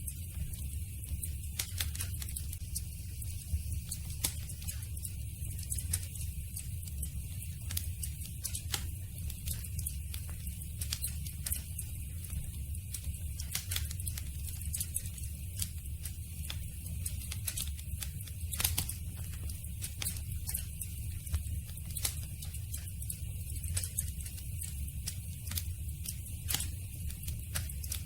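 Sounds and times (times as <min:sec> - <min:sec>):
low rumble of flames: 0:00.0 - 0:28.0
wood crackling and popping: 0:00.0 - 0:28.0.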